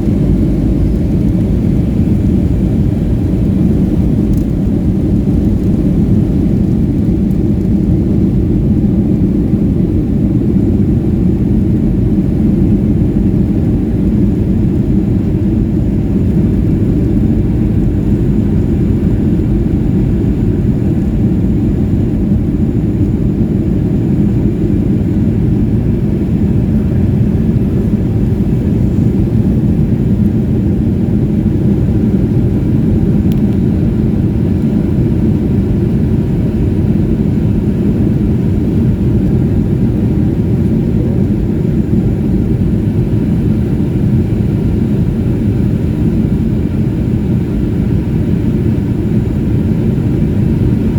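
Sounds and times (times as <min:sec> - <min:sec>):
jet engines rumbling in cabin: 0:00.0 - 0:50.9.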